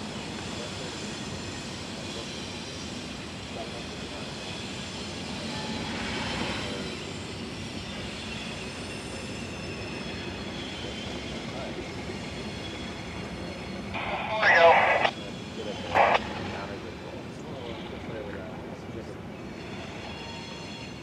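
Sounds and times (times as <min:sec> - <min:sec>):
diesel locomotive running: 0:00.0 - 0:21.0.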